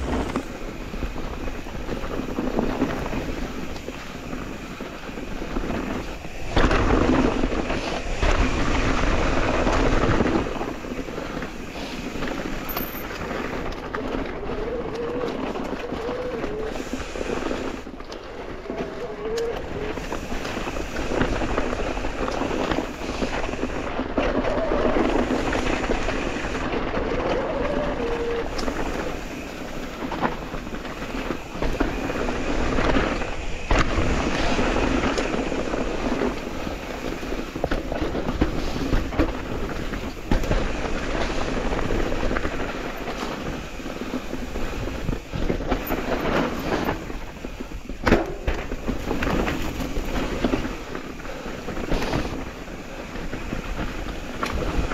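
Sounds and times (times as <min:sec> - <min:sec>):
bike knocking and rattling: 0:00.0 - 0:54.9
bike tyre and drivetrain noise: 0:00.0 - 0:54.9.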